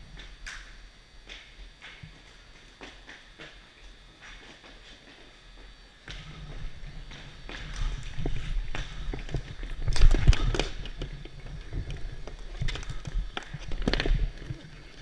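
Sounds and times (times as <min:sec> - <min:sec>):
shoes running on floor: 0:01.3 - 0:14.4.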